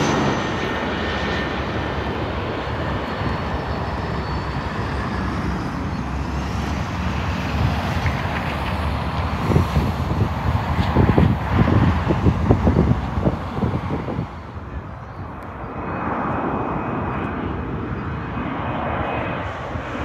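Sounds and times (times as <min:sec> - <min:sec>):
distant jet engines rumbling: 0:00.0 - 0:20.0
wind buffeting microphone: 0:00.0 - 0:20.0.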